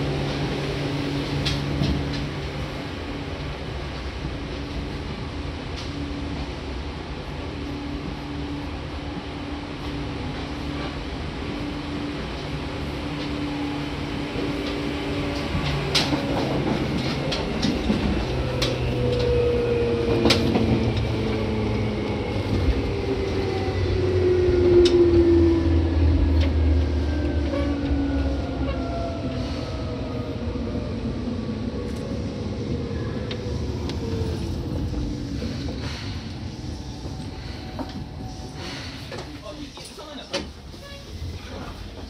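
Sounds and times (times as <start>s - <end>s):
electric train running on rails: 0.0s - 42.0s.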